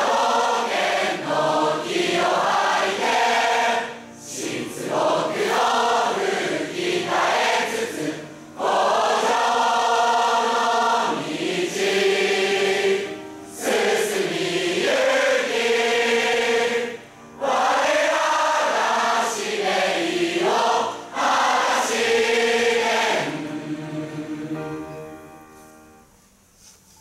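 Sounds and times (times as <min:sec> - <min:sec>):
choir of teenagers singing: 0:00.0 - 0:25.2.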